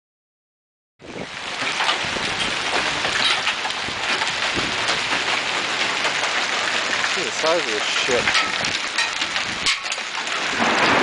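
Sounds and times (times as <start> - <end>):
heavy rain and hail hissing: 1.0 - 11.0
hailstones clicking on hard surfaces: 1.4 - 11.0.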